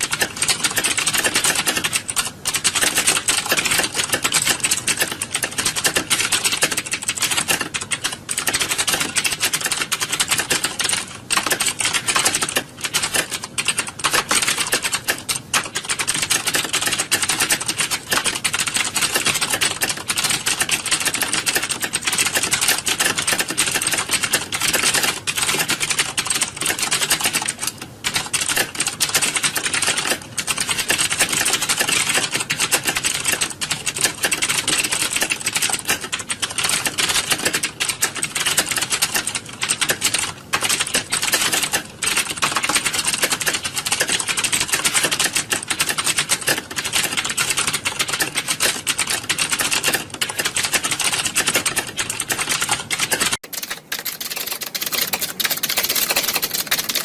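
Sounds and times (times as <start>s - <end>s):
keyboards typing clatter: 0.0s - 57.0s.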